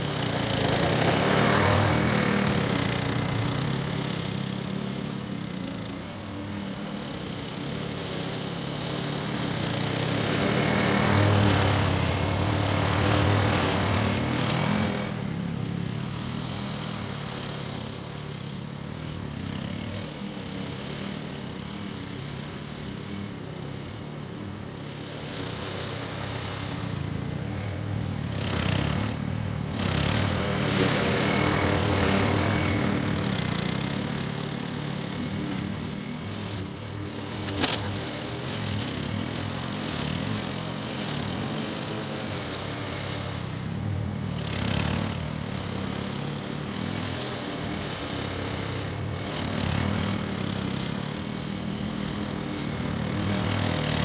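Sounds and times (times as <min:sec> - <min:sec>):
lawn mower engine cutting grass: 0:00.0 - 0:54.0.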